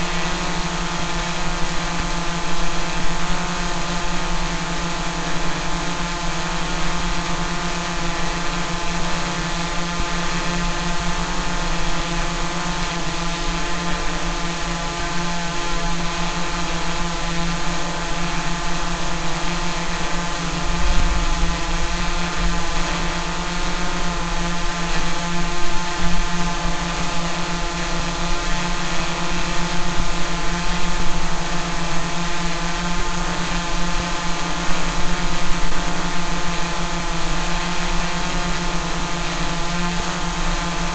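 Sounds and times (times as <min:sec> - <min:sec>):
drone propellers humming: 0:00.0 - 0:40.9.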